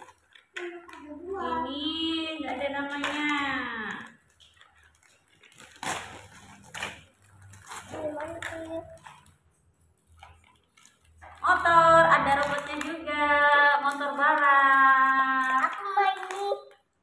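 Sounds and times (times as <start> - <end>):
wrapping paper tearing: 0.0 - 16.8.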